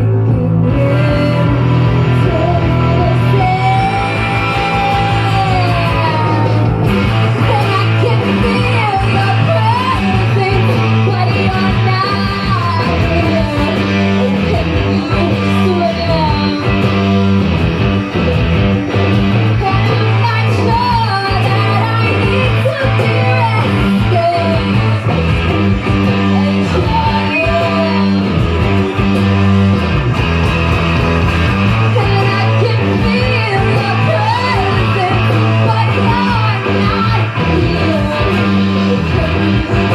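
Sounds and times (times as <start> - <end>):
person singing: 0.0 - 17.5, 18.9 - 30.3, 31.3 - 39.9
live rock band playing: 0.0 - 39.9.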